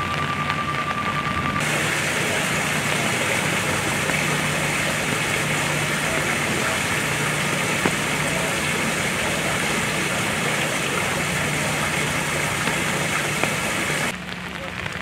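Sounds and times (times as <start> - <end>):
steady high tone: 0.0 - 14.1
heavy rain falling: 0.0 - 15.0
vehicle engine idling: 1.6 - 14.1.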